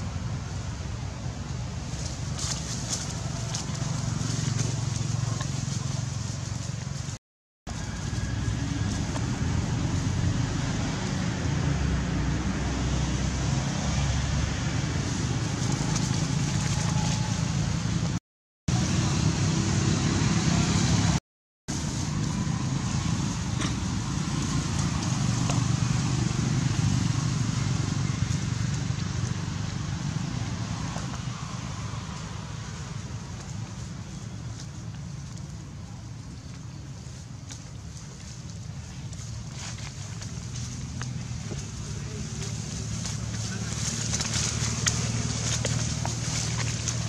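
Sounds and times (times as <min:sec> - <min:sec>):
low rumbling background noise: 0:00.0 - 0:47.0.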